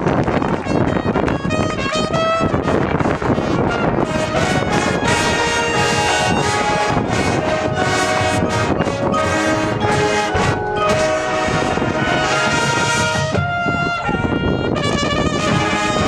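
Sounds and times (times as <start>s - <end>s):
marching band brass chords: 0.4s - 16.0s.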